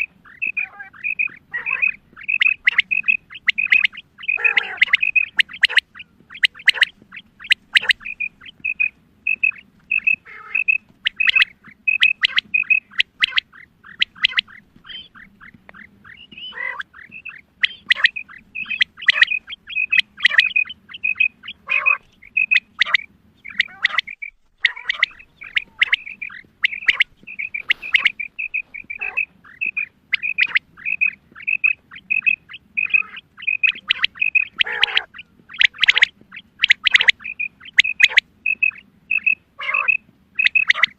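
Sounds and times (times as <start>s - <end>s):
quail calling: 0.0s - 40.9s.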